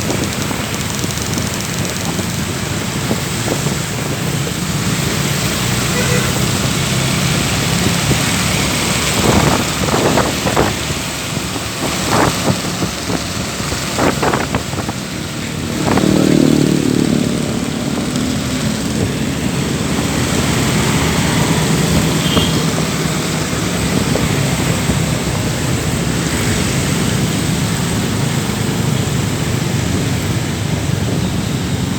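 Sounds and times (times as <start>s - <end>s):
car and motorbike engines: 0.0s - 31.9s.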